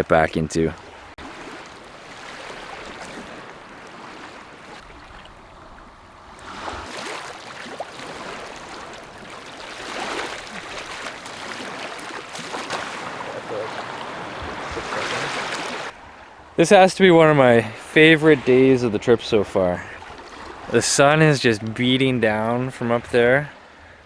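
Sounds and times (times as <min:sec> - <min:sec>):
waves washing onto beach: 0:00.0 - 0:24.0.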